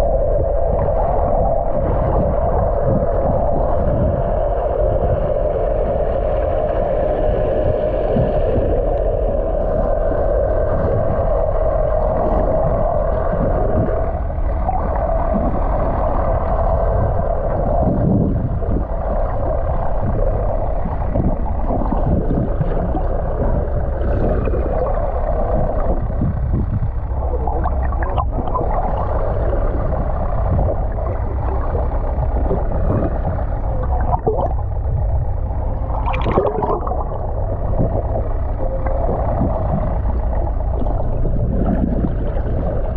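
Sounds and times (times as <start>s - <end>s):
underwater rumble and hum: 0.0s - 42.9s
water gurgling: 0.0s - 42.9s.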